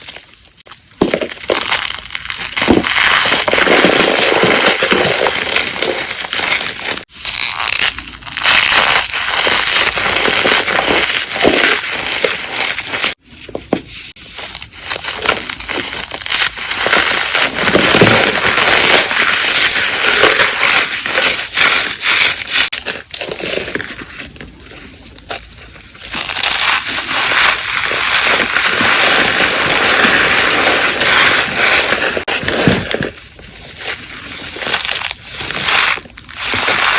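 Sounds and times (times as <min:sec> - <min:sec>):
chalk being crushed: 0:00.0 - 0:36.9.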